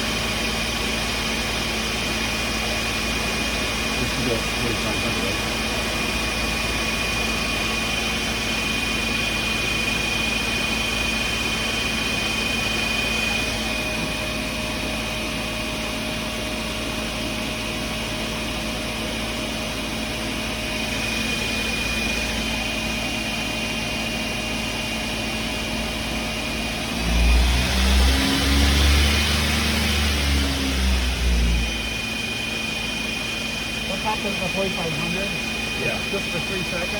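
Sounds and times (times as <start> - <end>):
lathe spindle whine: 0.0 - 36.9.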